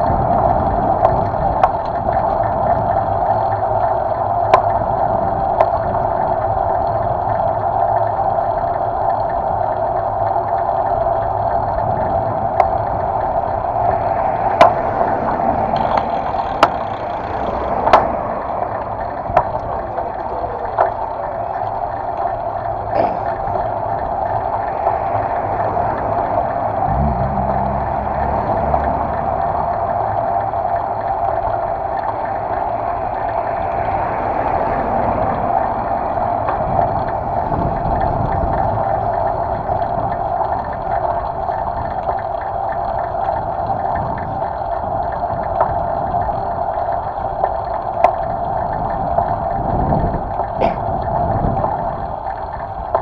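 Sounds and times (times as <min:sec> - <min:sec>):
bicycle road and wind noise: 0:00.0 - 0:53.0.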